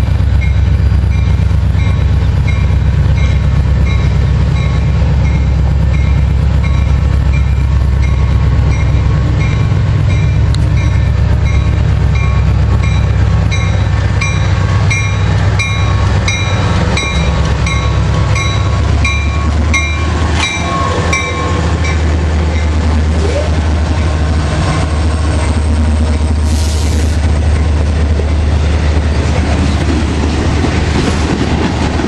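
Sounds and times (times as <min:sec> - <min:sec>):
diesel locomotive engine rumble: 0:00.0 - 0:32.0
train wheels on rails: 0:00.0 - 0:32.0.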